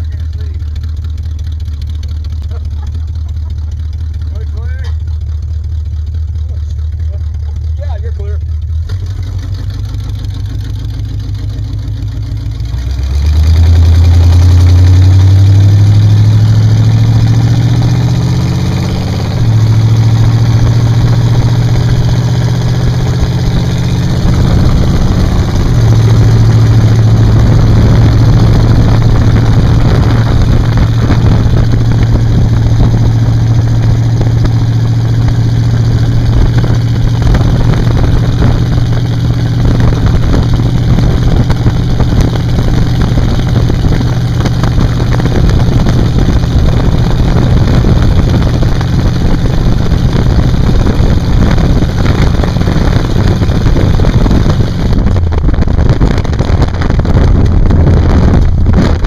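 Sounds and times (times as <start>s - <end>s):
truck engine running: 0.0s - 59.0s
wind and road noise: 0.0s - 59.0s.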